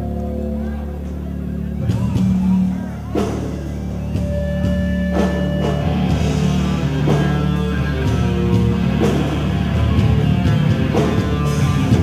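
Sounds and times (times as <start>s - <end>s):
distorted guitars: 0.0s - 12.0s
heavy bass: 0.0s - 12.0s.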